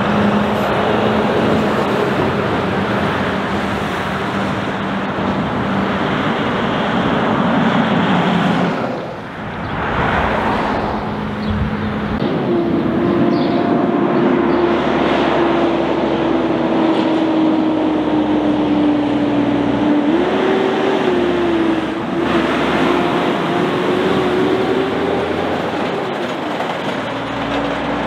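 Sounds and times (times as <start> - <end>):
higher-pitched truck engine drone: 0.0 - 28.0
light vehicles passing: 0.0 - 28.0
truck engine drone: 0.0 - 28.0.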